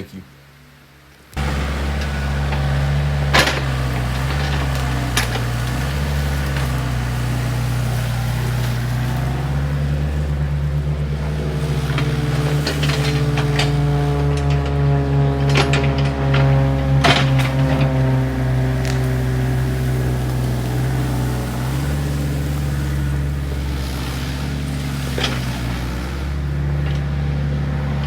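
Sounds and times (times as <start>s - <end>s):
excavator diesel engine running: 0.4s - 28.0s
rattling clanks: 1.4s - 28.0s.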